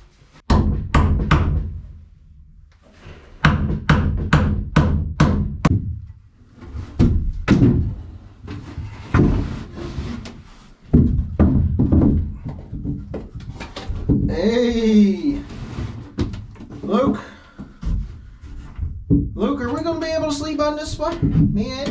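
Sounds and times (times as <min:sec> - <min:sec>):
wooden knocks and thunks: 0:00.5 - 0:01.8, 0:03.4 - 0:15.0, 0:15.6 - 0:21.9.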